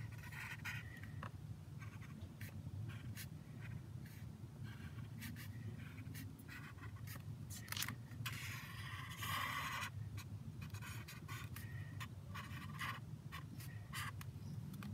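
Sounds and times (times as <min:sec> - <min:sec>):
felt-tip marker drawing on paper: 0:00.0 - 0:01.1, 0:01.8 - 0:07.2, 0:08.2 - 0:14.2.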